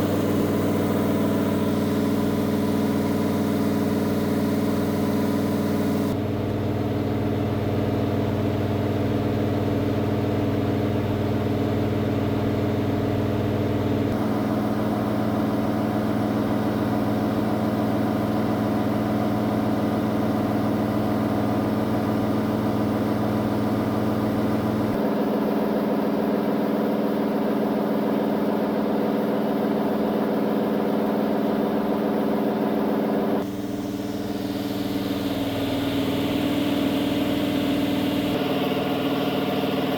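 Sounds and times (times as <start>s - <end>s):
race engine running: 0.0s - 25.7s, 26.9s - 39.9s.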